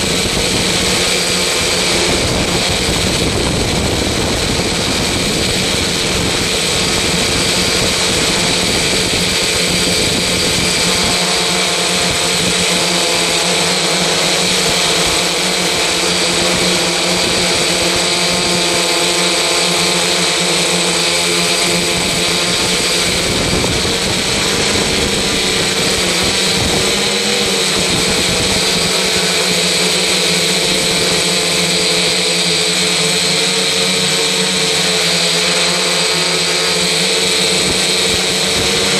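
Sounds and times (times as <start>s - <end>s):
machine whirring: 0.0s - 38.9s.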